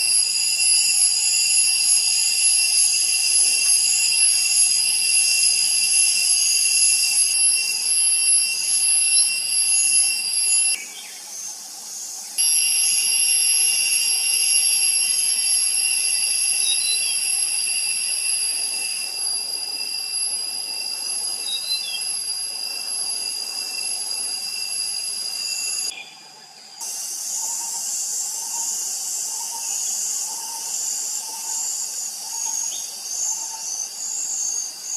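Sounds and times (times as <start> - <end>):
insect chorus drone: 0.0 - 34.9.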